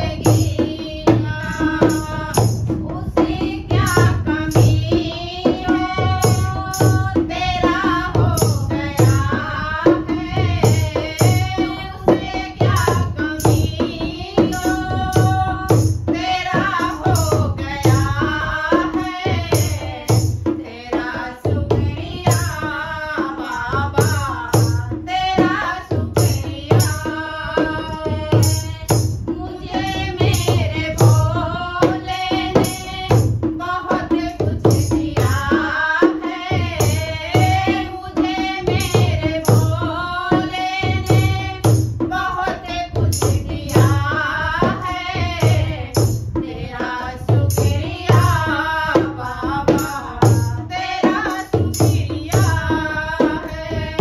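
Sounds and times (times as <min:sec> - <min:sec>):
hand drum beating: 0:00.0 - 0:54.0
women singing: 0:00.0 - 0:54.0.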